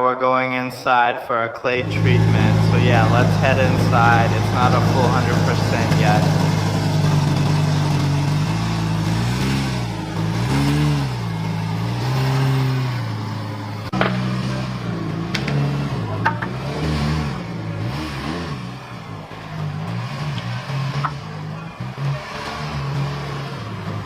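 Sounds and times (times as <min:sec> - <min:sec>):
car engine throttle blips: 0:01.7 - 0:24.0.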